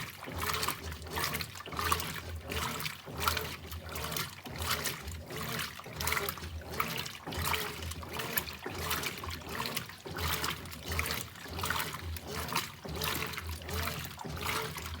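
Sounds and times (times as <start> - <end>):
washing machine water sloshing: 0.0 - 15.0.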